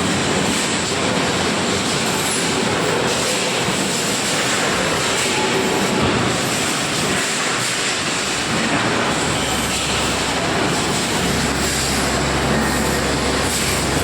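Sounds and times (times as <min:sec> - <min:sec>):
machinery hiss and clatter: 0:00.0 - 0:14.0.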